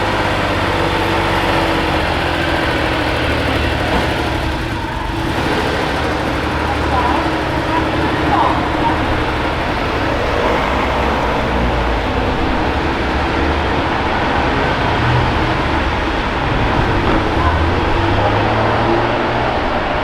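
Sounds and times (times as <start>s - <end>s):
car engine running at low revs: 0.0s - 20.0s
people's voices: 0.0s - 20.0s.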